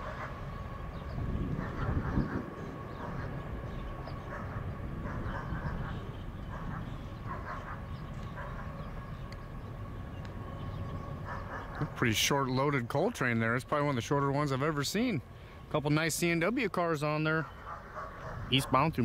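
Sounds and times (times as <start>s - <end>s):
coal train rumbling past: 0.0s - 18.6s.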